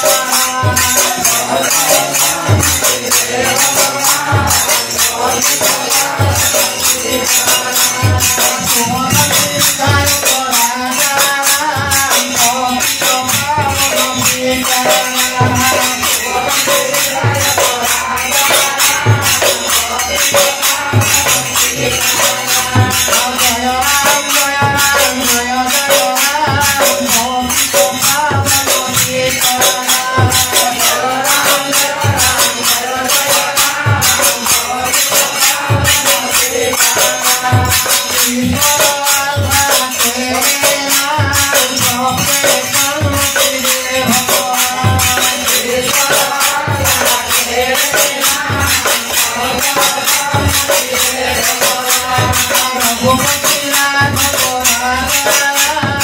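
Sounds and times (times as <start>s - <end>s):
brass hand cymbals clashing: 0.0s - 56.0s
group devotional singing: 0.0s - 56.0s
hand drum beating: 0.0s - 56.0s.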